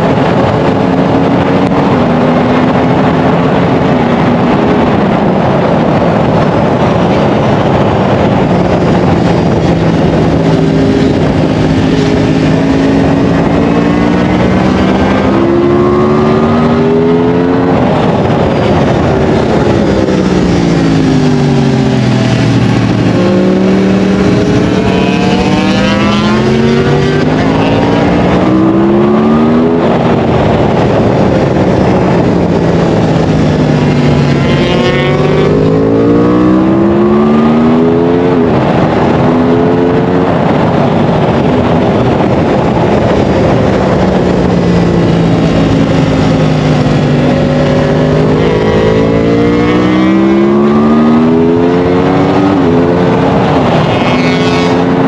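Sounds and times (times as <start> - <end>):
heavy wind rush: 0.0 - 55.0
racing motorcycle engine revving: 0.0 - 55.0.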